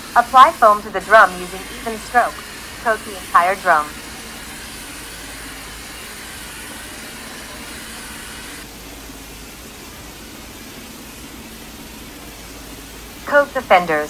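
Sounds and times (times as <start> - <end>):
foam sprayer hissing: 0.0 - 14.0.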